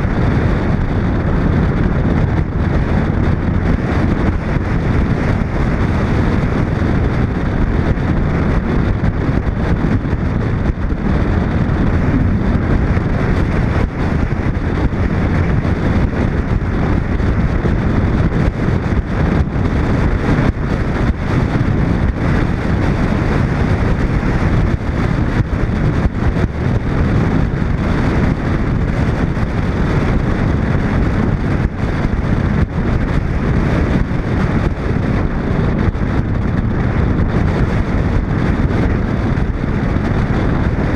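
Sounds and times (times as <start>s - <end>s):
car road noise: 0.0s - 40.9s
wind buffeting microphone: 0.0s - 40.9s.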